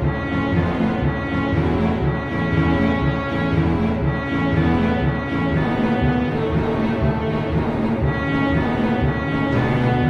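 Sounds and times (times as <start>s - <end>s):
slow instrumental held chords: 0.0s - 10.0s.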